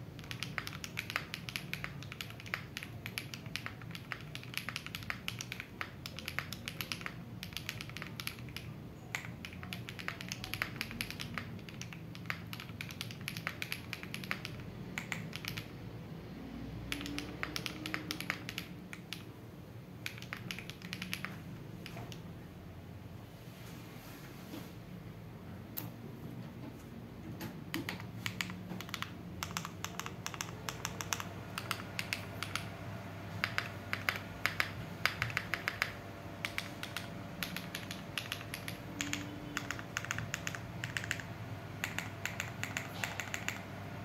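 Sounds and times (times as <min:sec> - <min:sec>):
mechanical keyboard typing: 0:00.0 - 0:15.8, 0:16.8 - 0:19.4, 0:20.0 - 0:22.3, 0:27.5 - 0:43.8.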